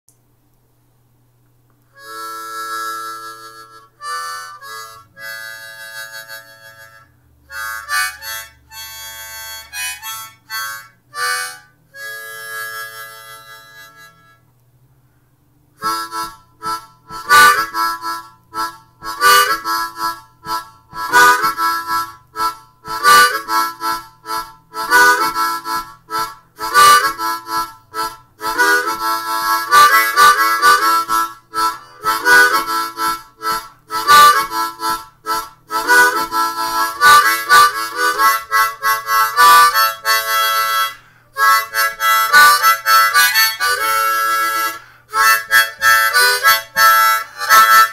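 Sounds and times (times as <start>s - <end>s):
harmonica boogie riff: 1.9s - 14.5s, 15.8s - 47.9s.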